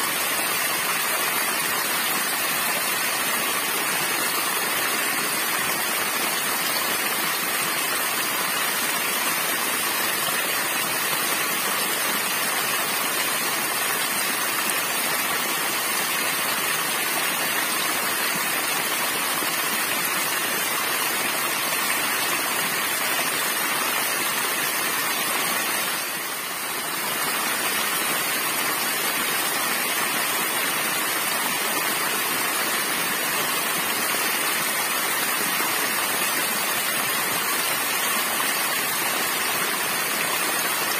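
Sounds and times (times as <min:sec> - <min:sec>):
waterfall splashing onto rocks: 0:00.0 - 0:40.9.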